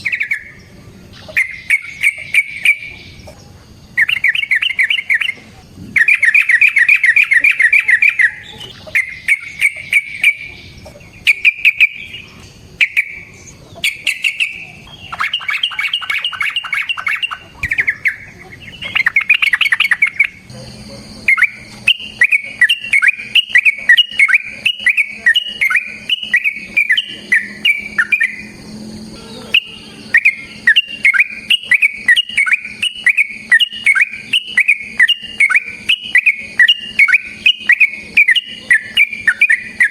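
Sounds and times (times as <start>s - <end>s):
bird singing trills: 0.0s - 39.9s.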